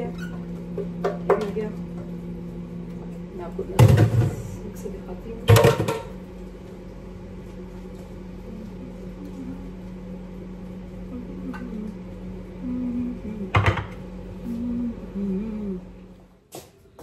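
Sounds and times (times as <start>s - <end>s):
kitchen appliance humming: 0.0s - 16.6s.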